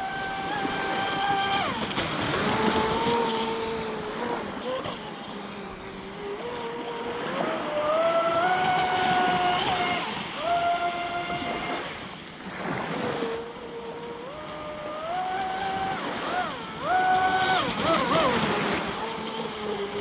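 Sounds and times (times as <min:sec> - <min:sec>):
electric motor whining: 0:00.0 - 0:20.0
water rushing and splashing: 0:00.0 - 0:20.0.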